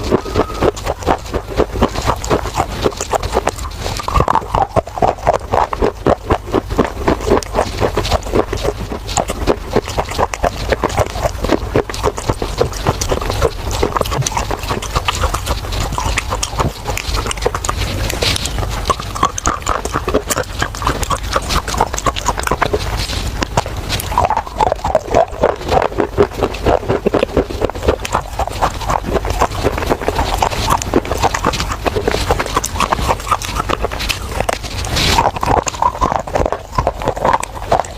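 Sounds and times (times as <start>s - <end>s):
crunching and chewing: 0.0s - 37.9s.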